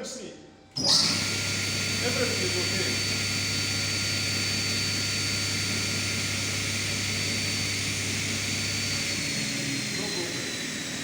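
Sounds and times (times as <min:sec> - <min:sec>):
electric motor humming and whining: 0:00.7 - 0:11.0.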